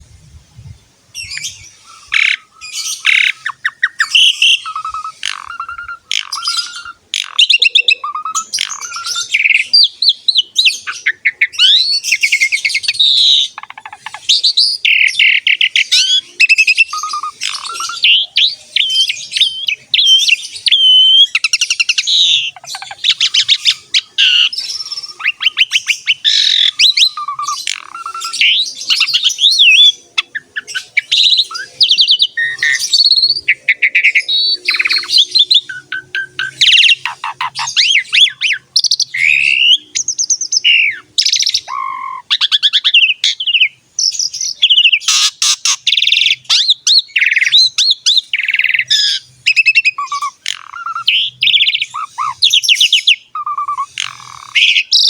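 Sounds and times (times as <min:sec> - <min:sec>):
starling singing: 0:01.2 - 0:55.0.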